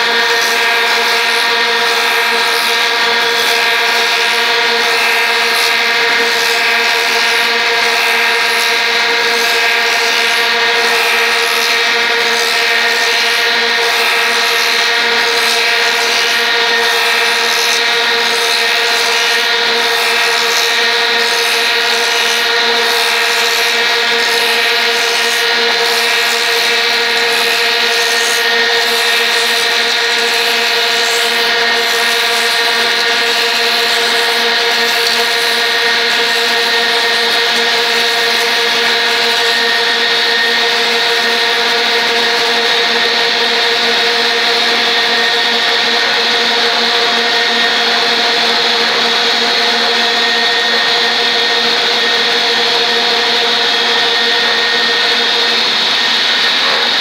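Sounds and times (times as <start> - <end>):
hiss of wood cutting: 0.0 - 57.0
wood lathe machine whine: 0.0 - 57.0.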